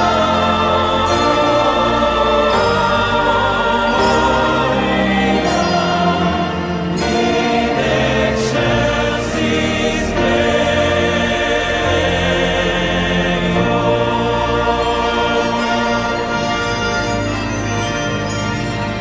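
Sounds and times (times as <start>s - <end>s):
choir singing held notes: 0.0s - 18.2s
instrumental accompaniment: 0.0s - 19.0s.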